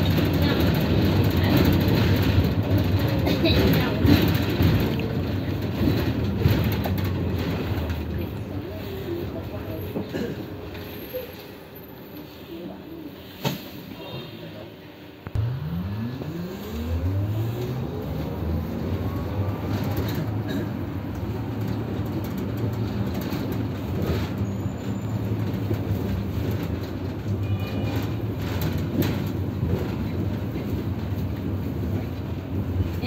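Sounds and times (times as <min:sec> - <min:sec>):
road rumble: 0:00.0 - 0:14.0, 0:14.8 - 0:33.0.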